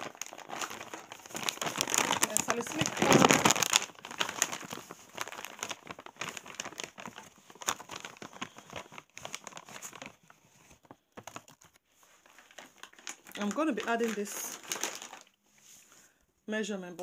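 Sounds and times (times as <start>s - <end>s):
packaging crinkling and rustling: 0.0s - 15.4s.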